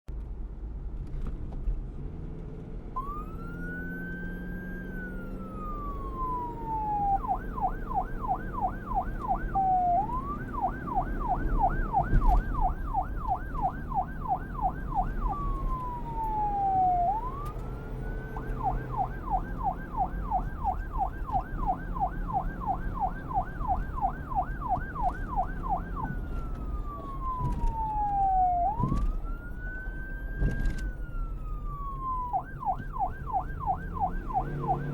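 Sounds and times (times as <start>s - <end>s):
low vehicle rumble: 0.1s - 34.9s
police siren wail and yelp: 3.0s - 34.9s.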